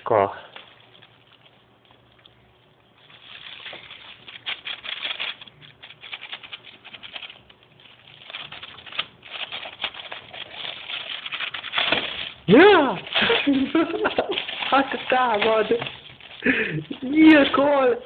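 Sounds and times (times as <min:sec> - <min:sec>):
plastic bag rustling: 0:00.0 - 0:18.0.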